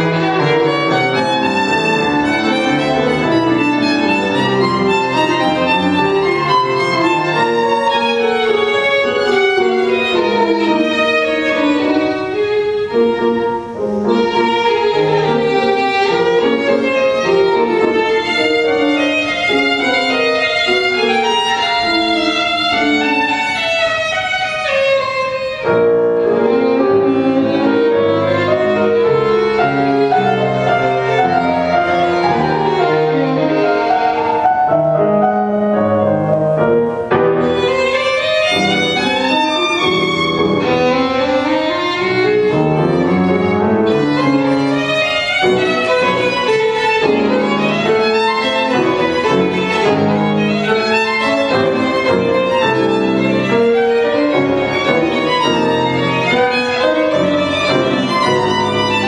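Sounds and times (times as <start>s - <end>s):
piano accompaniment: 0.0s - 59.0s
solo violin: 0.0s - 59.0s.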